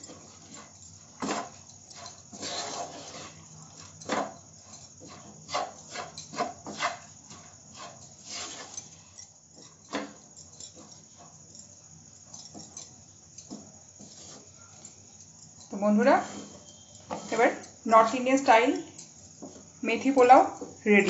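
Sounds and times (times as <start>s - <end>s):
spatula scraping a frying pan: 0.0s - 11.4s, 12.3s - 19.8s.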